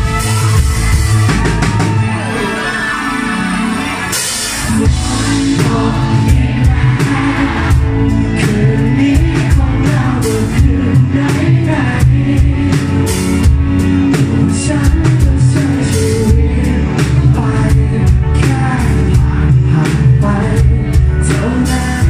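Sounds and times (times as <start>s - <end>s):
drum kit with cymbals: 0.0s - 2.2s, 4.0s - 22.0s
electric guitars and bass: 0.0s - 22.0s
lead singer singing: 1.4s - 22.0s.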